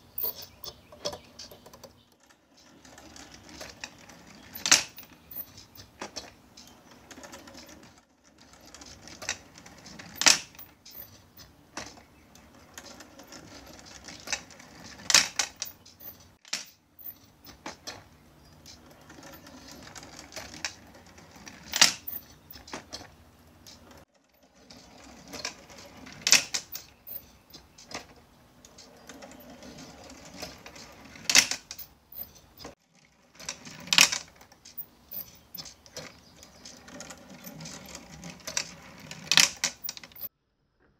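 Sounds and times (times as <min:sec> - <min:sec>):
machine mechanism rattling: 0:00.0 - 0:40.3.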